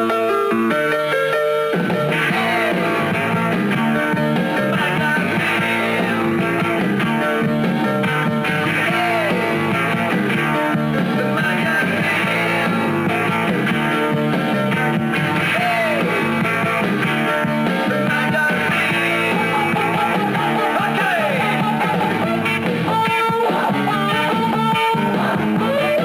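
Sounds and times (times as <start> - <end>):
drums: 0.0 - 26.0
electric guitar: 0.0 - 26.0
rock band playing: 0.0 - 26.0.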